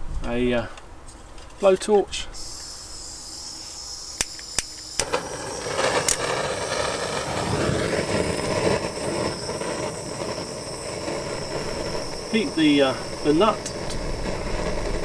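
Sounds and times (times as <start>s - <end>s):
blowtorch flame hissing: 2.3s - 15.0s.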